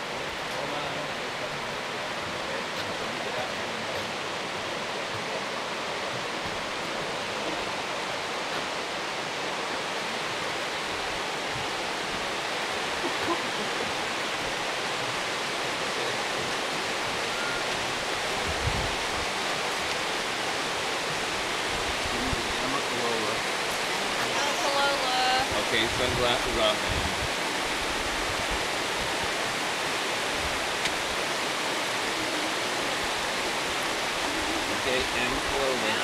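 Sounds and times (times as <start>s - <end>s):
river rapids rushing: 0.0s - 36.0s.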